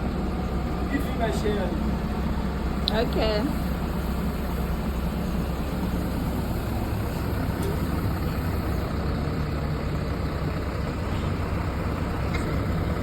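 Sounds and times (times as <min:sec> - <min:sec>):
heavy engine running at low revs: 0:00.0 - 0:13.0.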